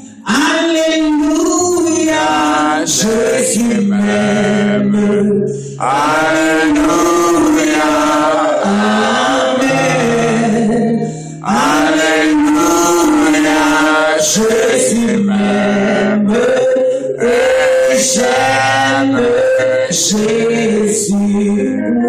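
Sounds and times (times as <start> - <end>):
man singing a hymn: 0.0 - 22.0.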